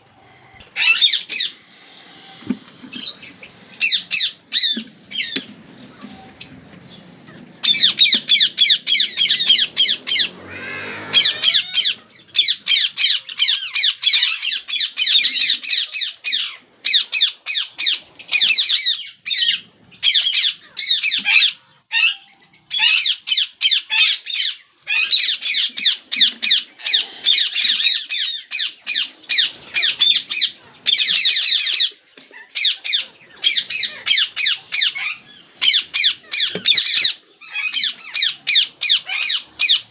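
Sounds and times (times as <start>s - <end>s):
parakeets squawking: 0.0s - 39.9s.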